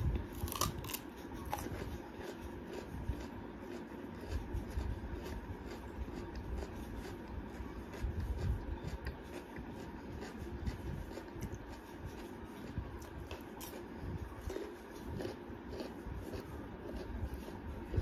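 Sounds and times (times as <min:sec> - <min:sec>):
low background rumble: 0:00.0 - 0:18.0
person chewing: 0:00.0 - 0:18.0.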